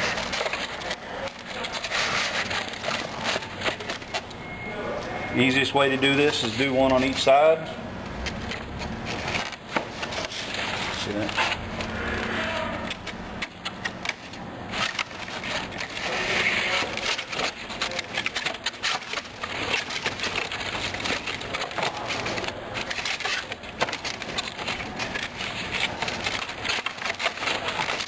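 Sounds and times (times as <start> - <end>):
cardboard scraping and rustling: 0.0 - 4.4, 8.2 - 28.0.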